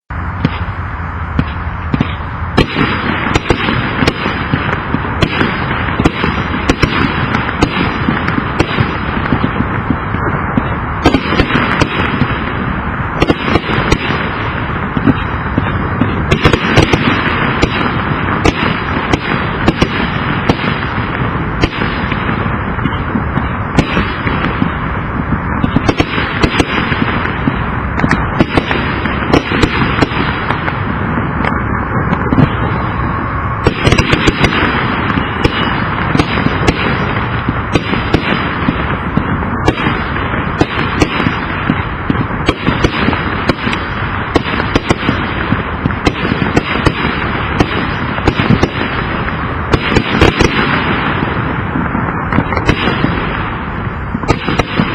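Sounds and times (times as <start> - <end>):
fireworks battery rapid bangs: 0.0 - 54.9.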